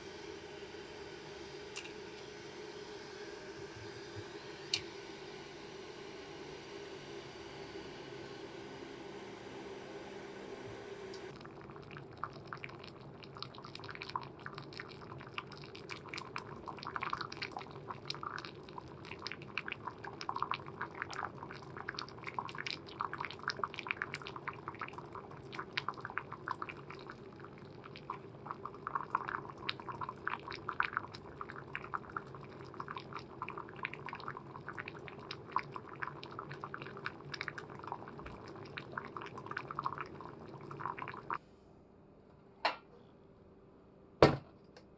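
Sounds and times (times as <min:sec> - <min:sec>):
water boiling in a pot: 0:00.0 - 0:41.4.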